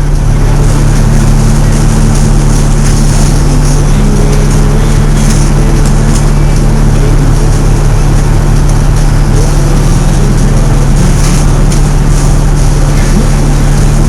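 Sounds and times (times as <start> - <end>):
fire truck engine droning: 0.0 - 14.0.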